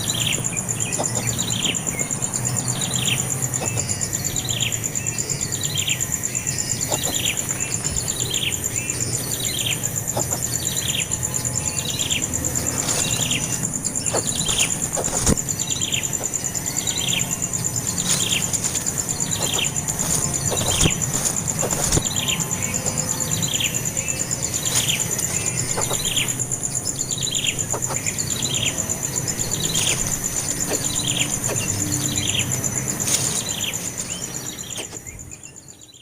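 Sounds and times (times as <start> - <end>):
bird chirping: 0.0 - 36.0.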